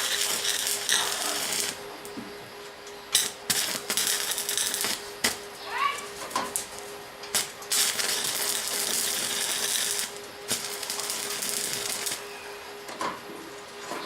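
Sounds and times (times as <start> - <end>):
welding arc crackling and hissing: 0.0 - 13.9
steady hum: 0.0 - 14.0.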